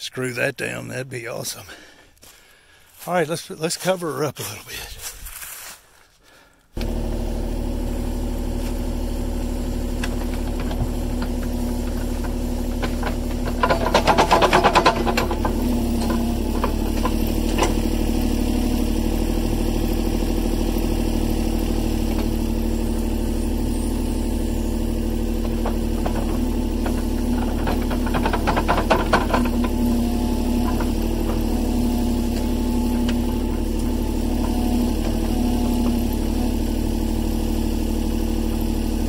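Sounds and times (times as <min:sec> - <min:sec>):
engine running steadily: 0:06.8 - 0:39.0
machinery clanking and rattling: 0:06.8 - 0:39.0.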